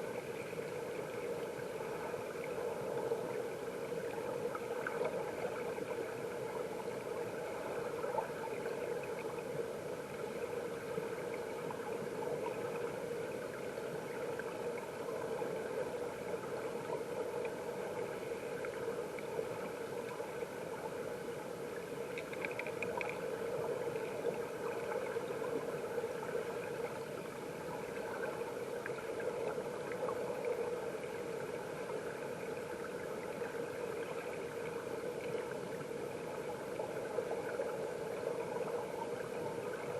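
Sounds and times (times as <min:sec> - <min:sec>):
faint crackling and ticking: 0:00.0 - 0:39.9
stream water rushing underwater: 0:00.0 - 0:39.9.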